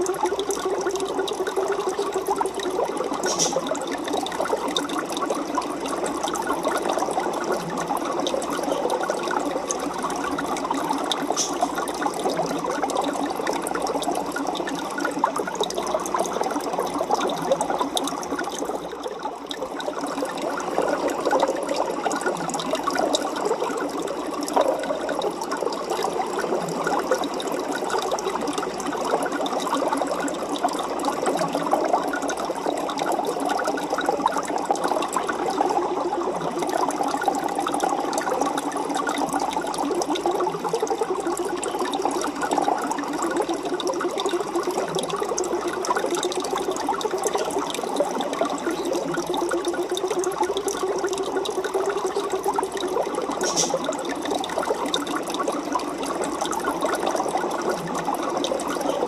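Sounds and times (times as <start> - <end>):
aquarium water bubbling: 0.0 - 59.0.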